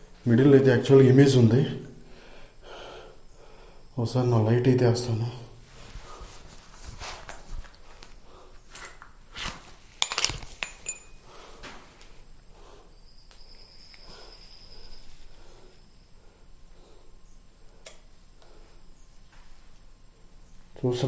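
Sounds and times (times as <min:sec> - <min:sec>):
faint high-pitched whine: 0:00.0 - 0:21.0.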